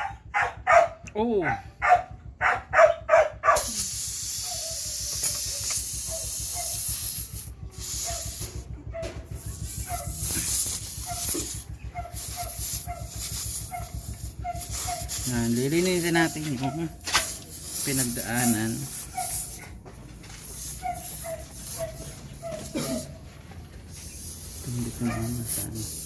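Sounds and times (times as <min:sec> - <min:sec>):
dog yipping: 0:00.0 - 0:03.8, 0:04.4 - 0:06.9, 0:07.8 - 0:19.8, 0:20.4 - 0:23.2, 0:24.0 - 0:26.0
air hissing out of a tyre: 0:03.6 - 0:23.2, 0:23.8 - 0:26.0.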